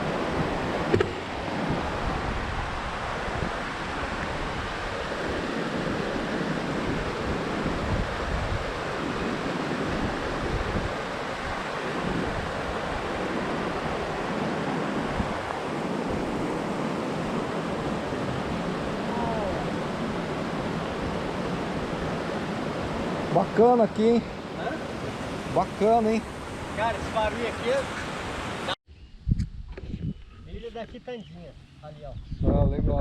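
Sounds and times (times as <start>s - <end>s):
wind buffeting microphone: 0.0s - 23.7s, 27.8s - 33.0s
waterfall rushing: 0.0s - 28.8s.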